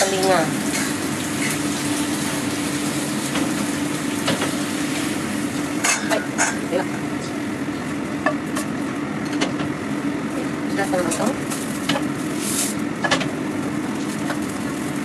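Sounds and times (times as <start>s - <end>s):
vegetables sizzling in a frying pan: 0.0s - 9.1s, 9.8s - 15.0s
steady low hum: 0.0s - 15.0s.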